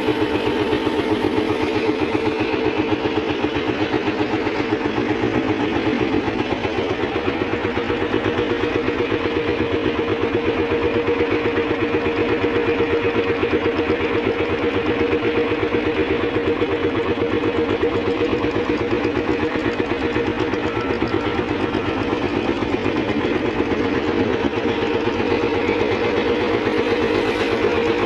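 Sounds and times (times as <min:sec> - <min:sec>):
motorboat engine chugging: 0:00.0 - 0:28.0.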